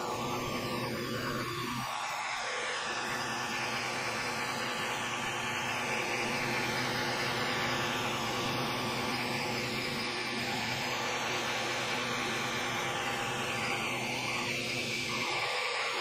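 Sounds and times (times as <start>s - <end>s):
faint whining of laser head drive: 0.0s - 16.0s
fan whir: 0.0s - 16.0s.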